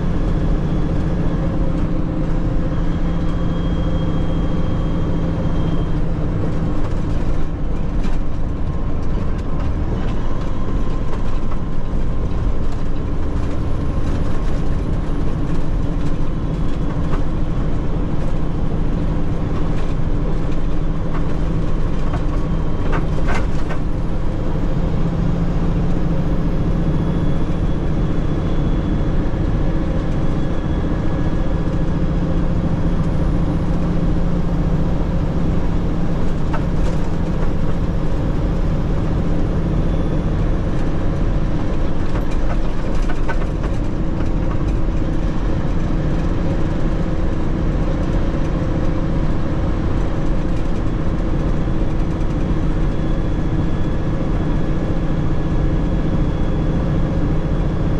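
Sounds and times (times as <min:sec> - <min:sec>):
truck engine and road noise: 0:00.0 - 0:57.9.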